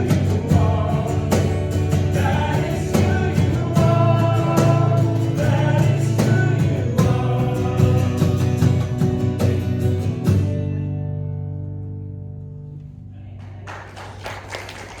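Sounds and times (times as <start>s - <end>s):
acoustic guitar strumming: 0.0s - 12.8s.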